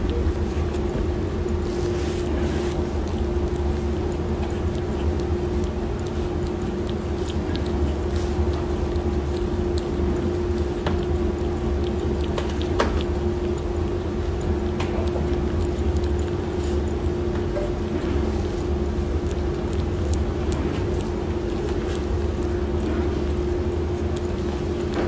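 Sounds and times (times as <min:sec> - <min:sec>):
steady low hum with tone: 0:00.0 - 0:25.0.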